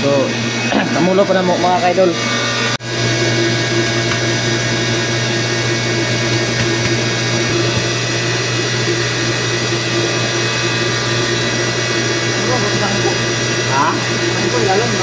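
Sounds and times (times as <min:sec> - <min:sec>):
electric pump motor humming: 0:00.0 - 0:15.0.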